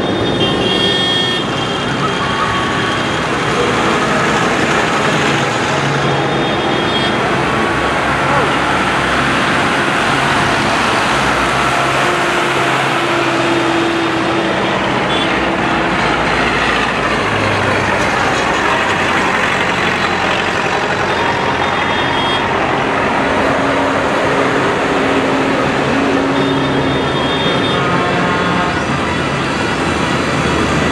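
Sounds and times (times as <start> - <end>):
tractor engines droning: 0.0 - 30.9.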